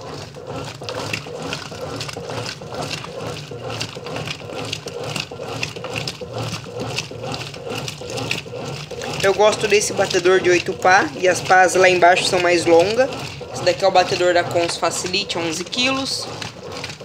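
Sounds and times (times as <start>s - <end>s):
washing machine agitator sloshing water: 0.0s - 17.0s.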